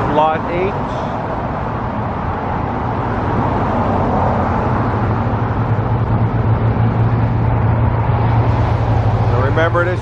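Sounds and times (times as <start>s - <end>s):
low engine hum: 0.0s - 10.0s
passing vehicles rushing: 0.0s - 10.0s.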